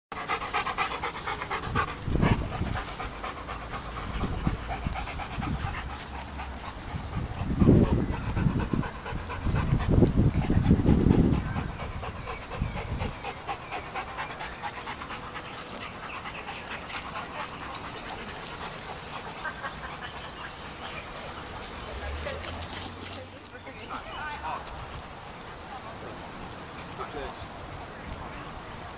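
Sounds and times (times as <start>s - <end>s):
dog panting: 0.1s - 28.9s.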